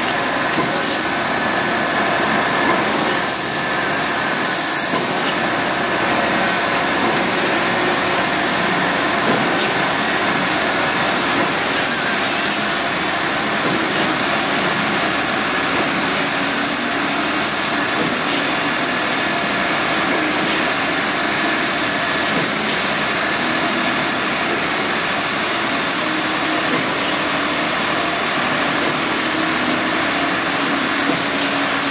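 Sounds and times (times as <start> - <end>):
heavy construction machinery din: 0.0 - 31.9.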